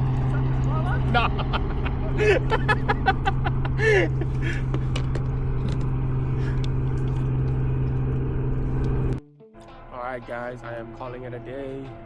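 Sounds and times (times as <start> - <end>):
aircraft engine droning overhead: 0.0 - 12.0.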